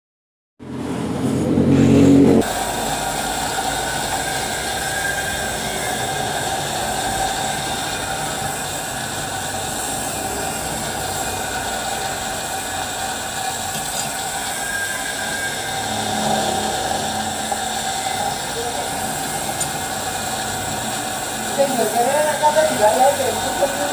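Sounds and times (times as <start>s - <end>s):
metal lathe running: 2.4s - 23.9s.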